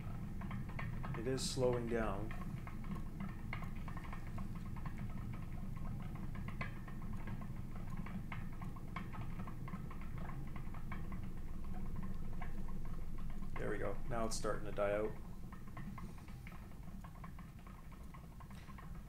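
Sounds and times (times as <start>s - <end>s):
generator low rumble: 0.0s - 19.0s
light irregular ticks: 0.0s - 19.0s.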